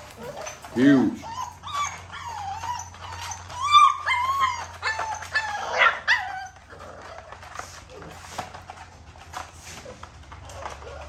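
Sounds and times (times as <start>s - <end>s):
puppy whining and yelping: 0.0s - 8.8s, 9.7s - 11.0s.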